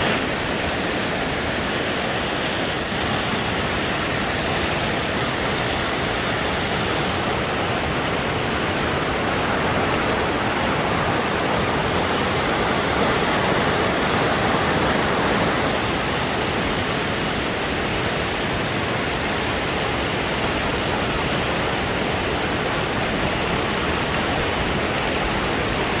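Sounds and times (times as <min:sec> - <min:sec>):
waterfall splashing into pool: 0:00.0 - 0:26.0.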